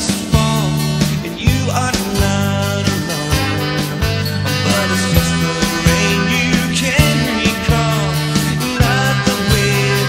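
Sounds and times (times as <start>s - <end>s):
band music with drum beat: 0.0s - 10.0s
sliding melody line: 1.2s - 10.0s.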